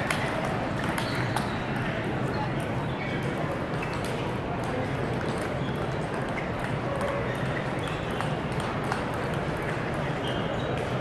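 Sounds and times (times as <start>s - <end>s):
murmur of hall noise: 0.0s - 11.0s.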